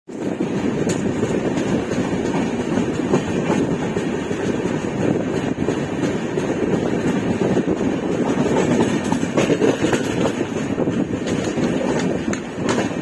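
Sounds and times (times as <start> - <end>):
train wheels on rails: 0.1 - 13.0.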